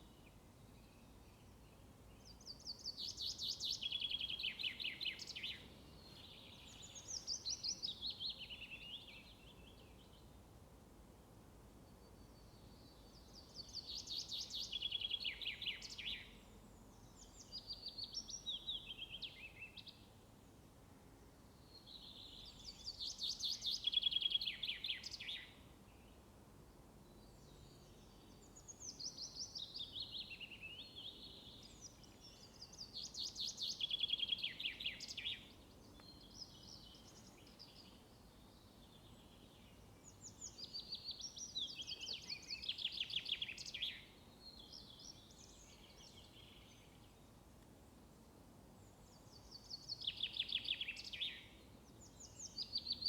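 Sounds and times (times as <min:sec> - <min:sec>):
songbird singing: 0:00.0 - 0:10.4, 0:11.8 - 0:20.6, 0:21.5 - 0:26.3, 0:27.0 - 0:53.0
faint background noise: 0:00.0 - 0:53.0.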